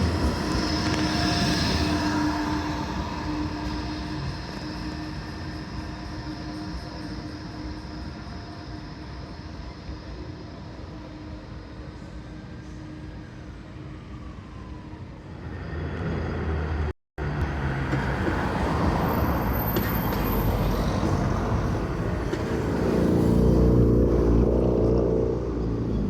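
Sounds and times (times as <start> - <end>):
tram rumbling past: 0.0 - 26.0.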